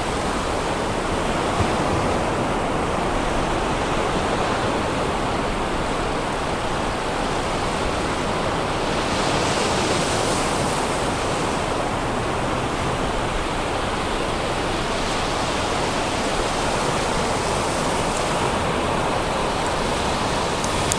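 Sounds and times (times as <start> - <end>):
surf breaking on sandy beach: 0.0 - 20.9.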